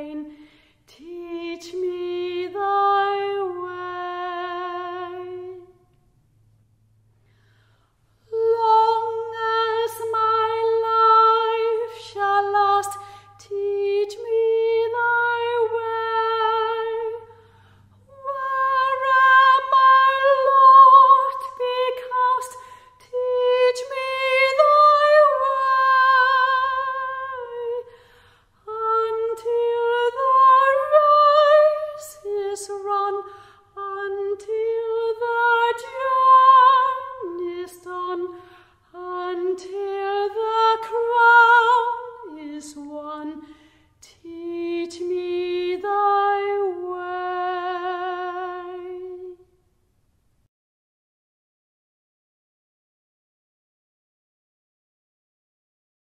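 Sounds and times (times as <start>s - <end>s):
woman singing a hymn: 0.0s - 5.8s, 8.3s - 17.4s, 18.1s - 49.4s.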